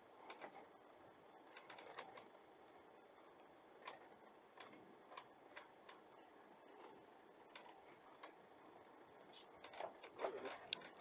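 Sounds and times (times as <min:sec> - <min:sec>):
low background hiss: 0:00.0 - 0:11.0.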